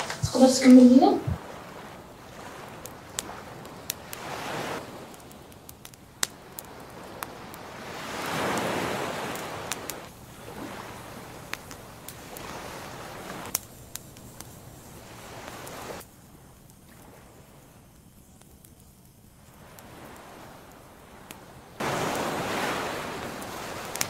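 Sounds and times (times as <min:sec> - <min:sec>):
rushing noise in slow surges: 0:00.0 - 0:24.0.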